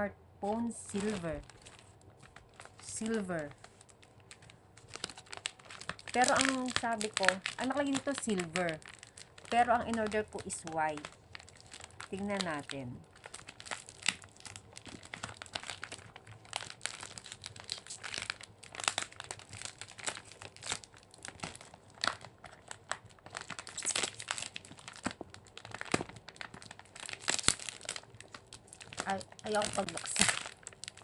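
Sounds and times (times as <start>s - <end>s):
packaging crinkling: 0.5s - 31.0s
packaging tearing: 0.9s - 31.0s.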